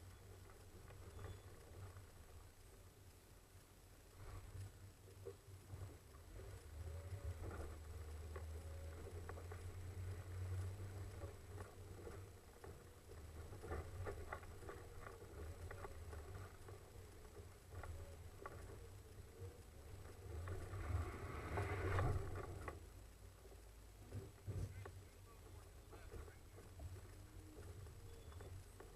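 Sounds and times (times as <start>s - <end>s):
low engine rumble: 0.0s - 28.9s.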